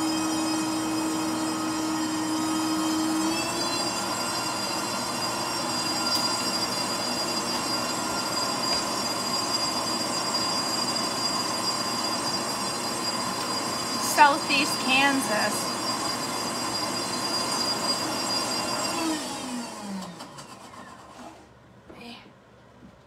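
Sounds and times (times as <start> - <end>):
blender motor whining: 0.0 - 21.4.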